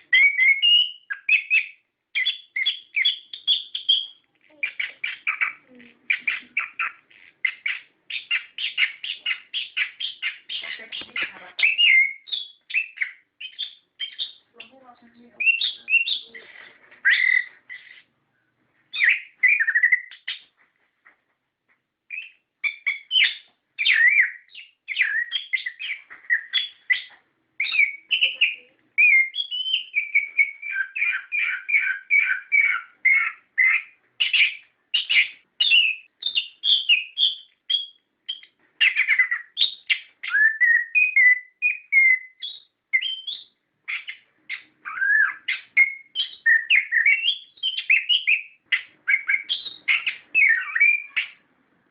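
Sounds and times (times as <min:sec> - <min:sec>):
thrush singing whistled phrases: 0:00.0 - 0:18.1, 0:18.9 - 0:20.5, 0:22.1 - 0:51.4.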